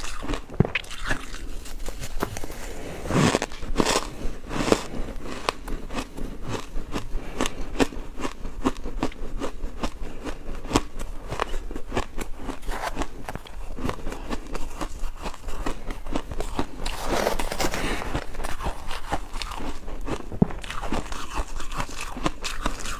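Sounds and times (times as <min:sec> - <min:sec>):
ice crunching between teeth: 0:00.0 - 0:22.9.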